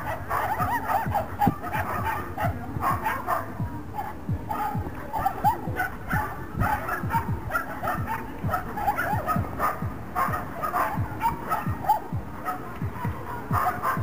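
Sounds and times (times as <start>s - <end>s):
dog barking and yipping: 0.0s - 14.0s.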